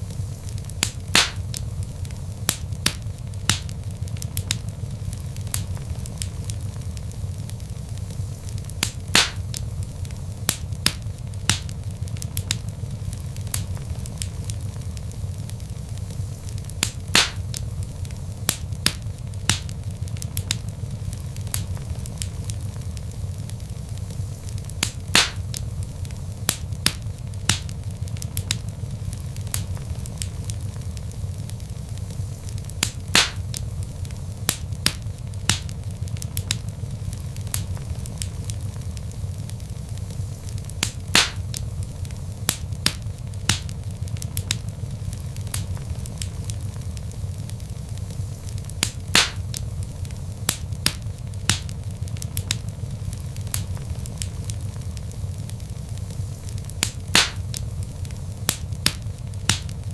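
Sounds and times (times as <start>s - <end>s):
log fire crackling and popping: 0.0s - 59.9s.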